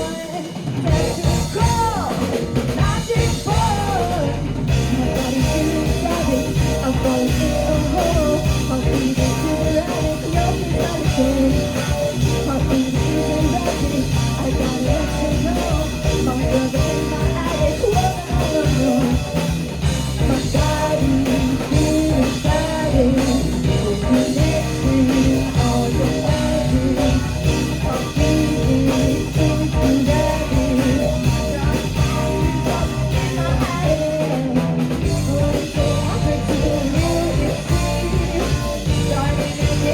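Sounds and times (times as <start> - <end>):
drum kit: 0.0 - 39.9
guitars: 0.0 - 39.9
person singing: 0.0 - 39.9
rock band playing live: 0.0 - 39.9.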